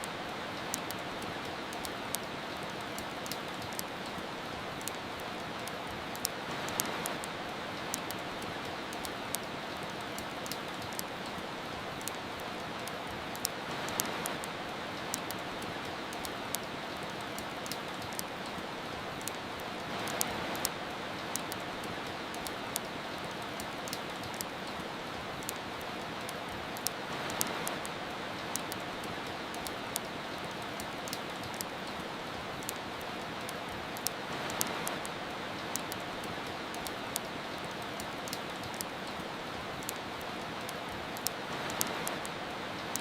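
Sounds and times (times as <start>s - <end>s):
soft rain: 0.0s - 43.0s
wood fire crackling: 0.0s - 43.0s.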